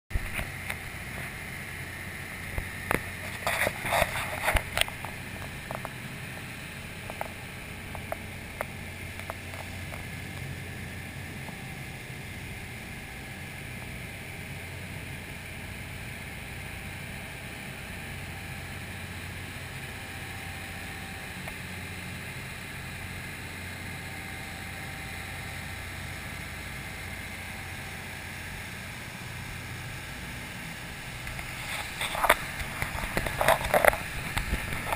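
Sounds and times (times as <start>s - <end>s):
boat engine hum: 0.1s - 34.9s.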